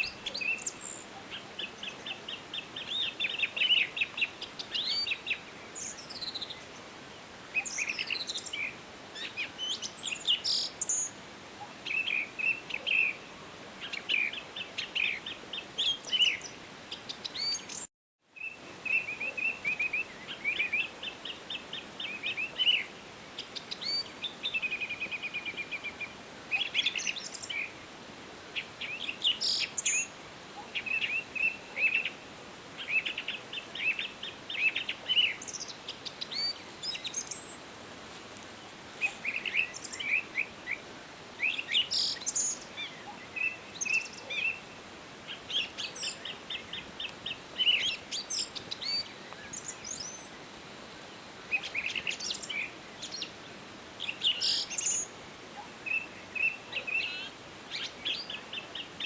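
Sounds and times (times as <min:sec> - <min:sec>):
faint background hiss: 0:00.0 - 0:59.0
songbirds singing and chirping: 0:00.0 - 0:59.0.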